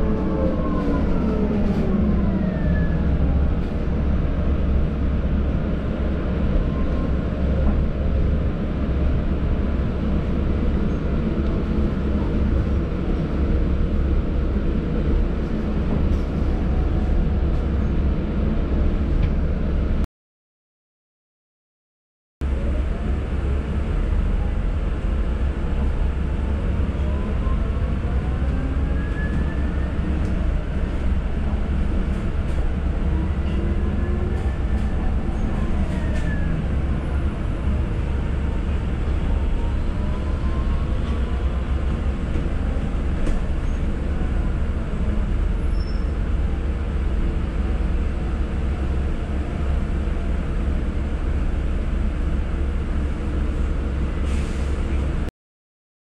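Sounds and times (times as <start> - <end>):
bus whine: 0.0 - 20.0, 22.4 - 55.3
bus rumbling: 0.0 - 20.1, 22.4 - 55.3.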